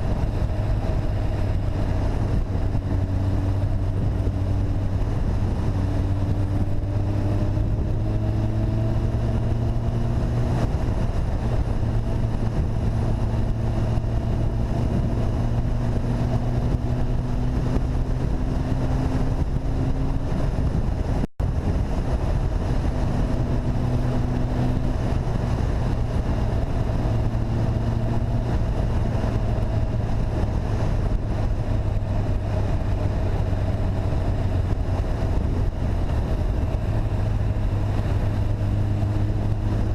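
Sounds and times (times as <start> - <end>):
vehicle engine running: 0.0 - 39.9
wind noise on microphone: 0.0 - 39.9.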